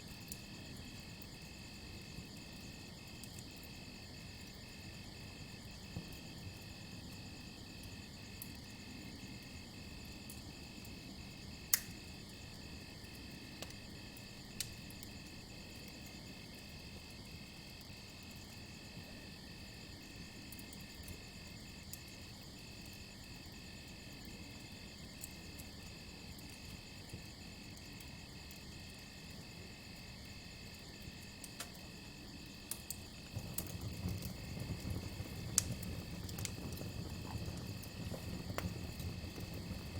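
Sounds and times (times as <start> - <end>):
campfire crackling: 0.0 - 19.2, 19.9 - 39.9
crickets chirping: 0.0 - 39.9.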